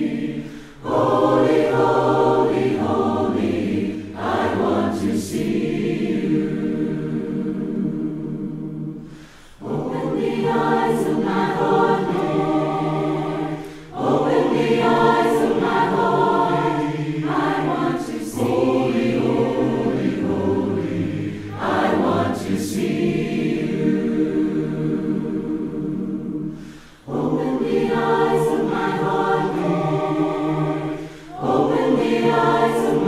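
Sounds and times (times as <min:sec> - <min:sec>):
choir singing in harmony: 0:00.0 - 0:33.0.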